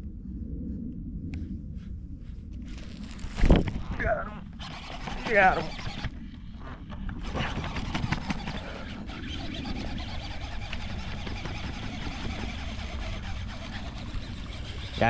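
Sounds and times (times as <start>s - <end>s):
fishing reel being cranked: 2.7s - 15.0s.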